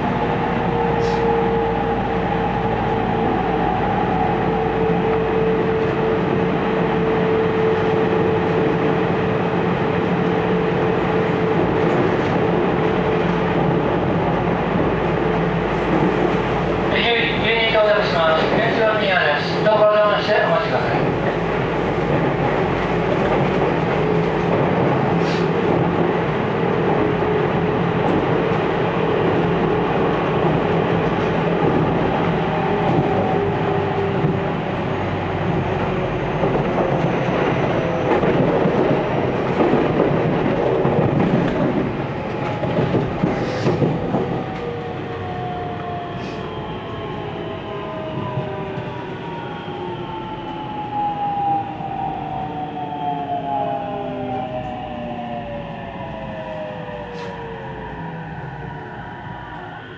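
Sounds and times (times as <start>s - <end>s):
train wheels running on rails: 0.0s - 57.6s.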